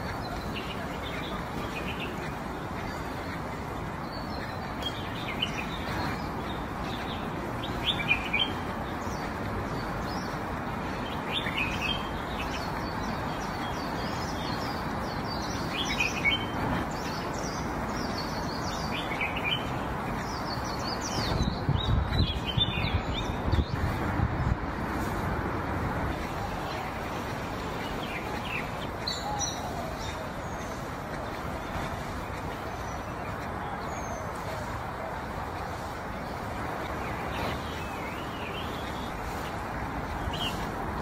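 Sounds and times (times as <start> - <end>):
outdoor background hiss: 0.0 - 41.0
small birds chirping: 0.0 - 41.0.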